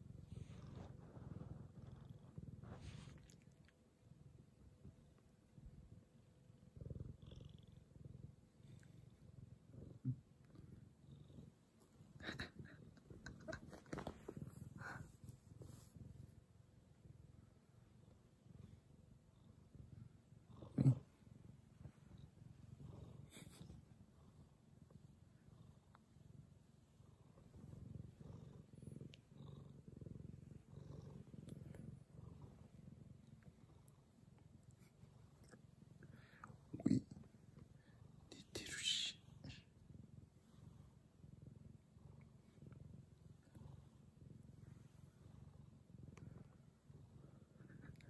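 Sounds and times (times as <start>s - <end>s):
cat purring: 0.0s - 48.0s.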